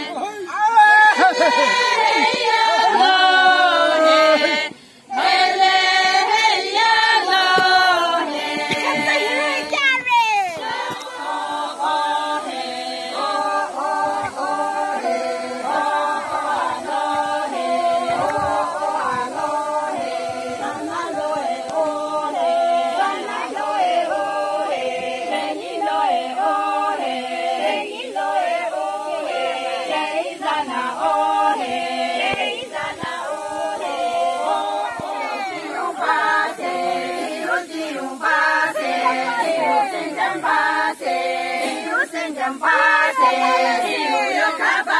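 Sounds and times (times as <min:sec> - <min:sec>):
women singing without instruments: 0:00.0 - 0:44.9.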